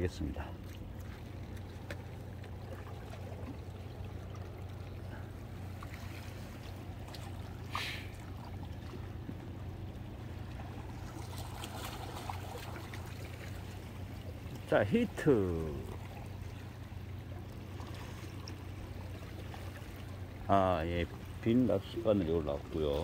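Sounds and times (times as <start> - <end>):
low hum: 0.0 - 21.7
water lapping among rocks: 0.2 - 23.0.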